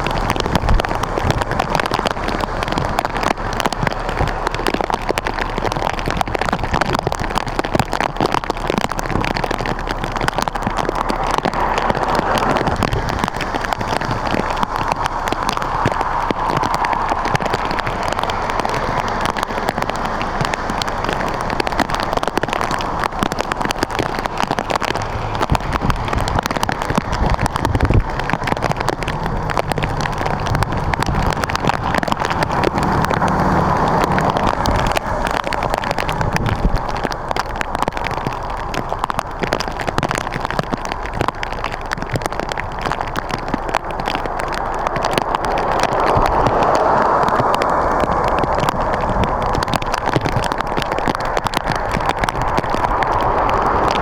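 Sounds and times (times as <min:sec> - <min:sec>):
rain hissing on surfaces: 0:00.0 - 0:54.0
vehicle engine hum: 0:00.0 - 0:54.0.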